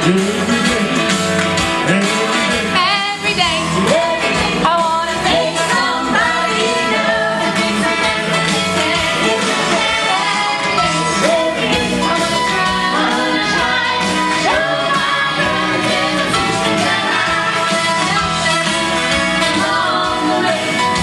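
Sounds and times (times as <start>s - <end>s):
gospel singers with vibrato: 1.8s - 21.0s.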